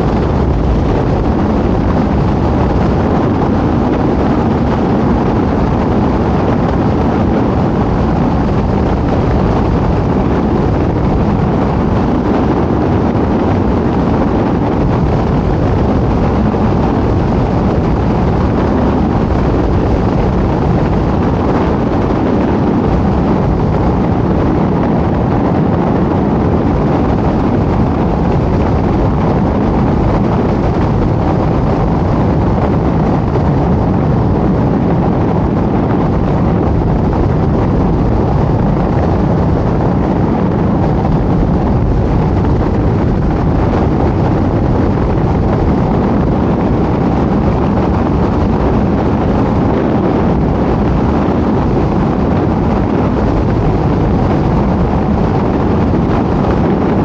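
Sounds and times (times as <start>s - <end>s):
wind on microphone: 0.0s - 57.0s.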